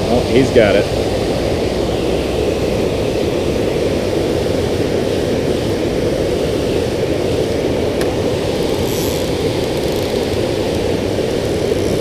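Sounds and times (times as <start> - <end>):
water roaring over a dam: 0.0 - 12.0.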